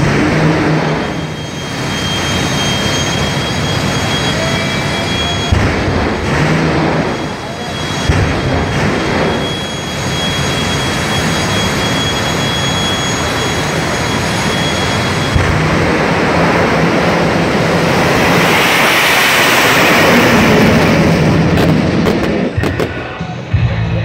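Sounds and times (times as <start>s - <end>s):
rocket engine roaring: 0.0s - 23.9s.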